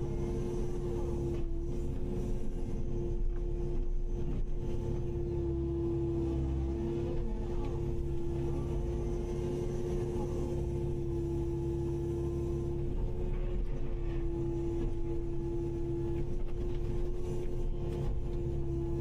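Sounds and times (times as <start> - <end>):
excavator engine rumble: 0.0 - 19.0.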